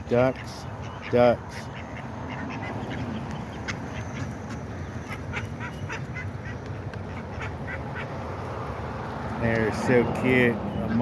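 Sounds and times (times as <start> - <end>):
ducks quacking: 0.0 - 8.8, 9.4 - 11.0.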